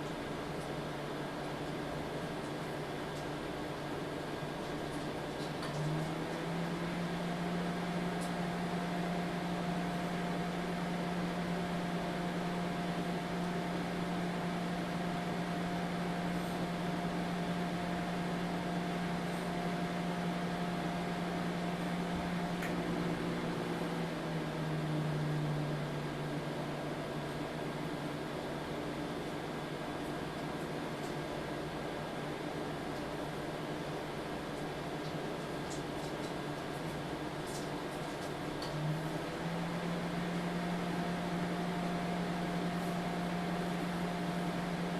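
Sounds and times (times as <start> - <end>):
microwave oven humming: 0.0 - 44.9.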